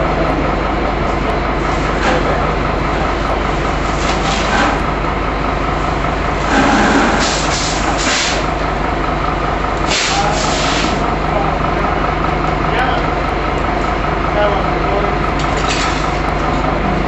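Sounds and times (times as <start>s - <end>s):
fire engine engine running: 0.0s - 17.0s.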